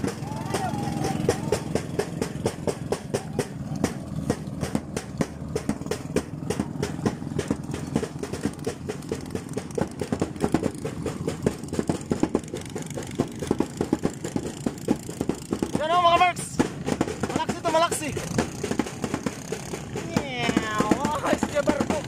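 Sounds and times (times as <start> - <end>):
sharp knocks and slaps: 0.0 - 22.0
small boat engine running: 0.0 - 22.0.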